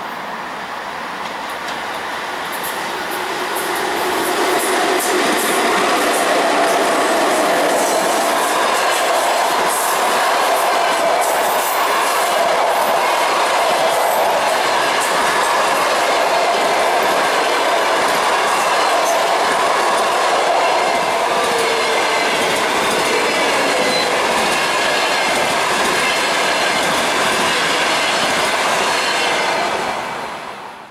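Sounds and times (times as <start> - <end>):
train wheels on rails: 0.0 - 30.9.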